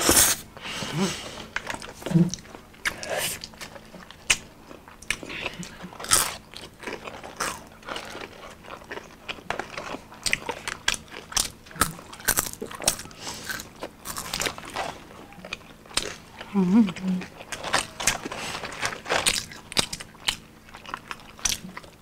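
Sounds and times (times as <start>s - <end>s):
chewing food: 1.5s - 22.0s.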